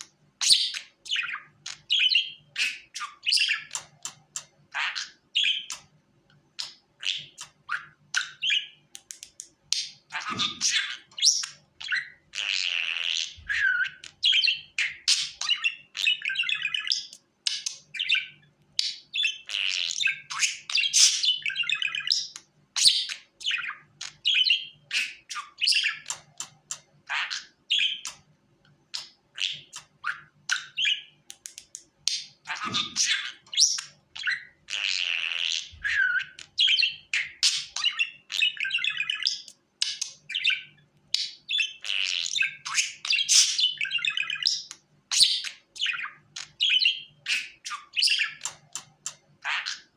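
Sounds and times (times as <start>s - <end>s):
budgerigar chattering: 6.6s - 8.8s, 9.8s - 28.2s, 28.9s - 31.1s, 32.1s - 49.9s.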